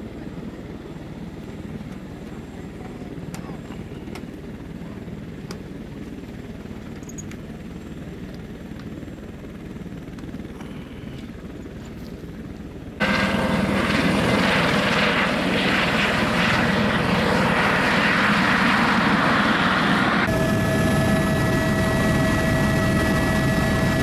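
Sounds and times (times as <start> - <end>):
helicopter flying low past: 0.0 - 24.0.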